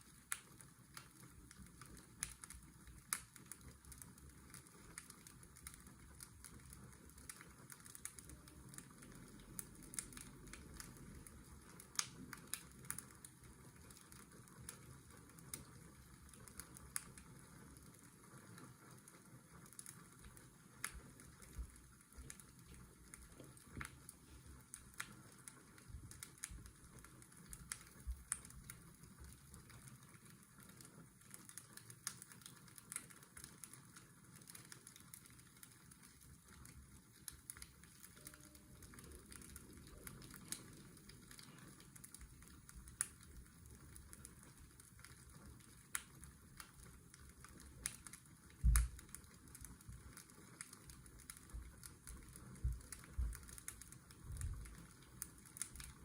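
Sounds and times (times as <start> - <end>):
fireplace crackling and popping: 0.0 - 56.0.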